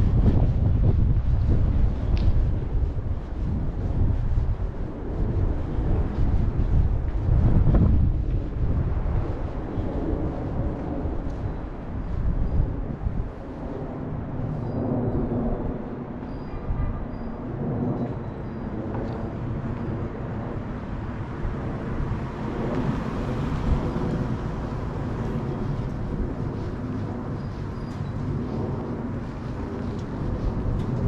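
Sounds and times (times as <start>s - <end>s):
low rumble of traffic: 0.0s - 31.0s.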